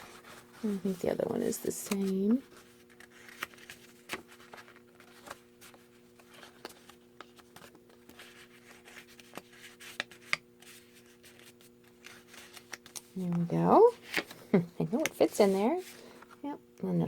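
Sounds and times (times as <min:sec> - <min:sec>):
paper rustling: 0:00.0 - 0:14.4.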